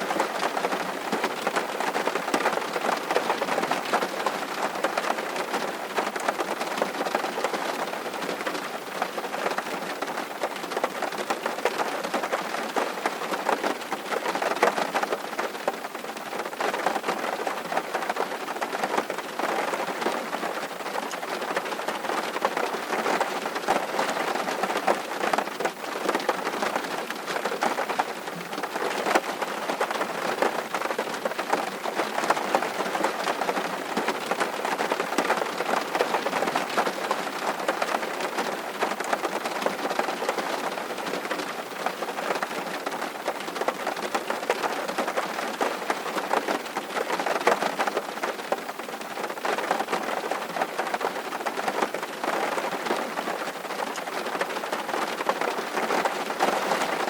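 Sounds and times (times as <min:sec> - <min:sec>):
raindrops ticking close by: 0:00.0 - 0:57.0
steady rain: 0:00.0 - 0:57.0.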